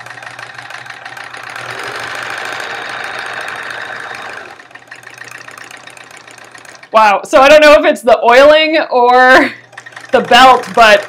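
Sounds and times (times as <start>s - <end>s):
sewing machine stitching: 0.0s - 7.8s, 9.1s - 11.0s.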